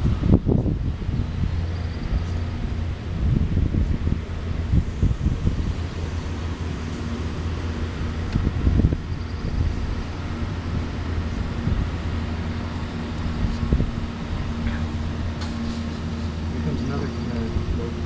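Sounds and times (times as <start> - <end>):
diesel engines humming: 0.0 - 18.0
wind buffeting microphone: 0.0 - 18.0.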